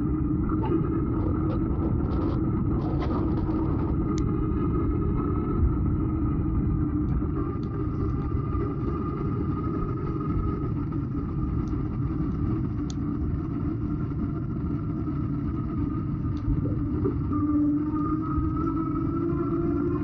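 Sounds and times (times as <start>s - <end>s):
wind rumble: 0.0s - 20.0s.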